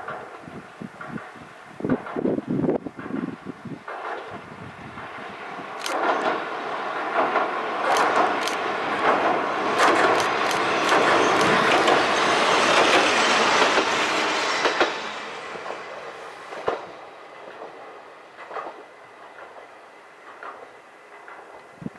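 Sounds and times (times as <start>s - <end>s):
train wheels rumbling on bridge: 0.0s - 21.9s.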